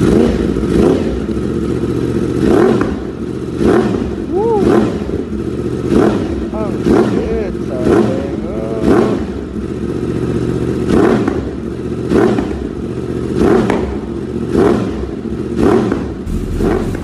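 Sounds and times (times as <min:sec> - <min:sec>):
motorcycle engine idling: 0:00.0 - 0:17.0
motorcycle throttle revs: 0:00.0 - 0:17.0.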